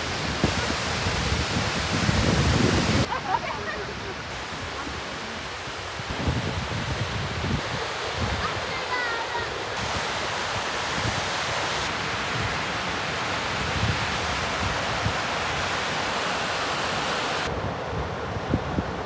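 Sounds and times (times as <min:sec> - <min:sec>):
river cascades rushing: 0:00.0 - 0:19.0
wind buffeting microphone: 0:00.0 - 0:19.0.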